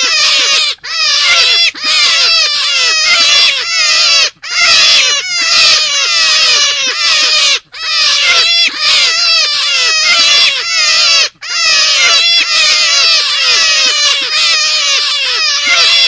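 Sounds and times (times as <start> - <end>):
rabbit high-pitched cries: 0.0 - 16.0.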